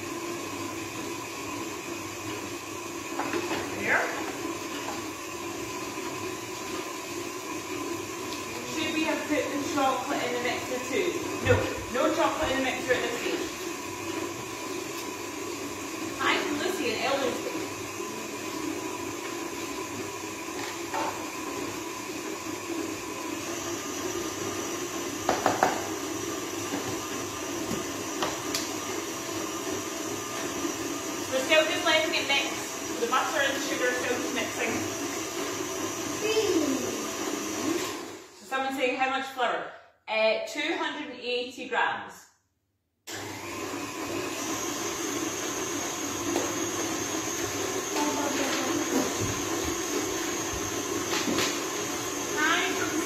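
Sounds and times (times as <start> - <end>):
stand mixer running: 0.0 - 38.4, 43.1 - 53.0.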